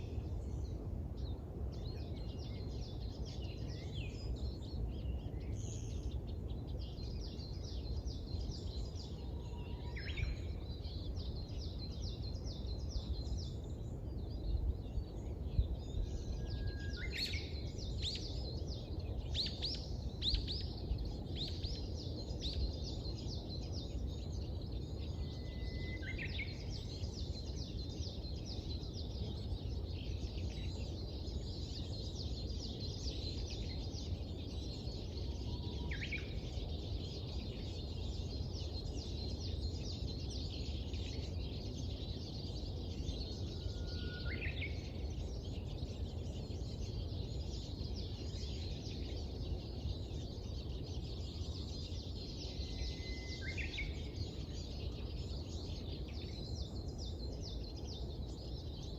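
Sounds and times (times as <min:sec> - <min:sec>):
birds chirping chorus: 0:00.0 - 0:58.9.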